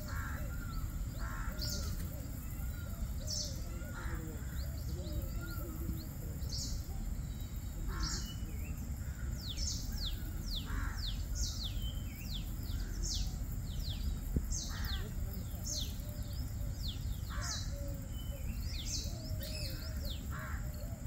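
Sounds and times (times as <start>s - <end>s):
low background noise: 0.0s - 21.0s
wild birds calling: 0.0s - 21.0s.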